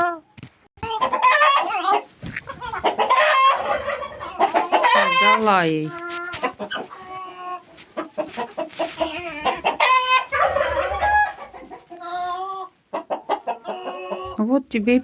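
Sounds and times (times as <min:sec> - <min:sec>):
hens clucking: 0:00.0 - 0:14.6.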